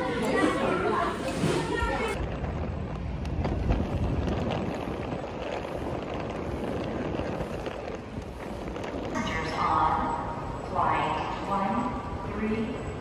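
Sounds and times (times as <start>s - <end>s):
faint outdoor background noise: 0.0s - 13.0s
wind buffeting microphone: 0.0s - 13.0s.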